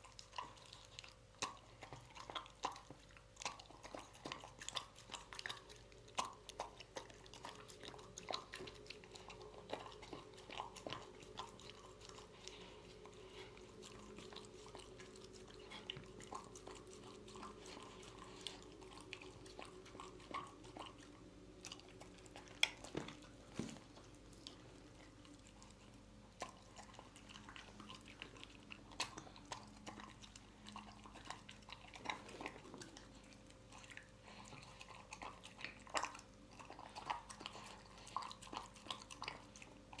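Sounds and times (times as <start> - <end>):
dog chewing and licking: 0.0 - 40.0.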